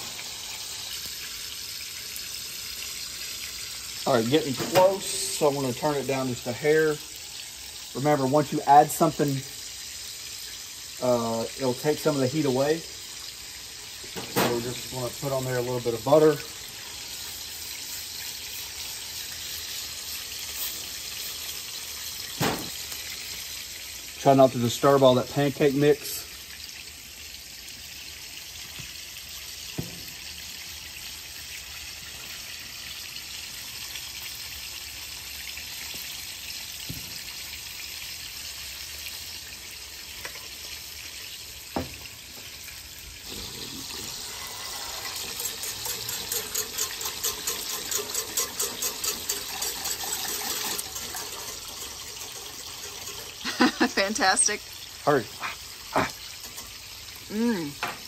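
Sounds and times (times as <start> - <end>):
batter sizzling on griddle: 0.0 - 58.0.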